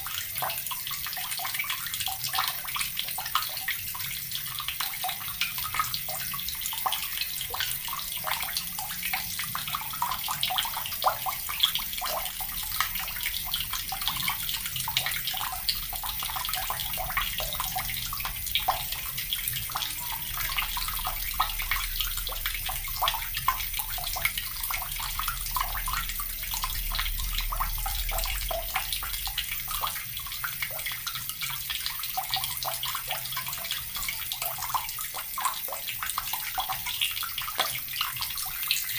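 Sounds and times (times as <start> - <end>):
tap water pouring into bucket: 0.0 - 38.9.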